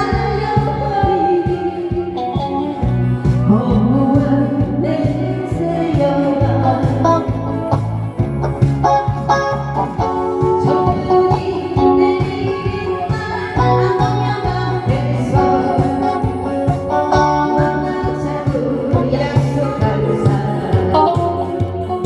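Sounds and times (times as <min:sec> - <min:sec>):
person singing: 0:00.0 - 0:07.8, 0:10.6 - 0:22.0
bass line: 0:00.0 - 0:22.0
guitar: 0:00.0 - 0:22.0.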